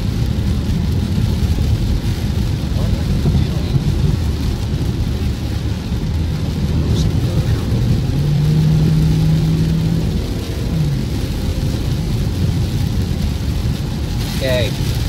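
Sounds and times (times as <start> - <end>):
road and engine rumble: 0.0 - 15.0
tyres hissing on wet road: 0.0 - 15.0.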